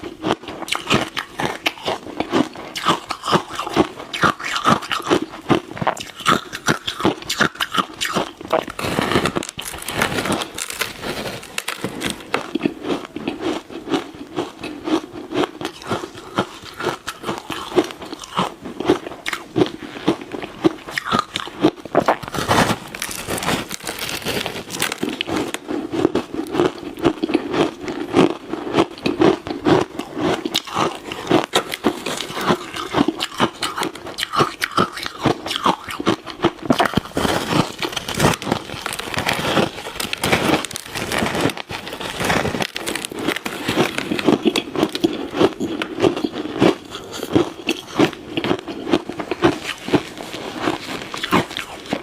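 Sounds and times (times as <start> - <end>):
ice crunching between teeth: 0.0 - 52.0.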